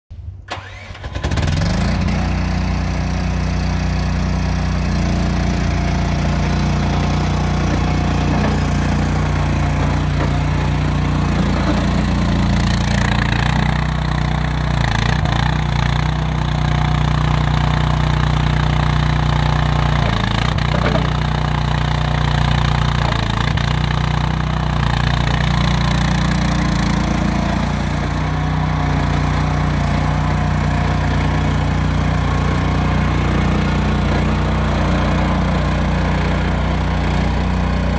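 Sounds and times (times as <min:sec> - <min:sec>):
small engine running: 0:00.5 - 0:37.9.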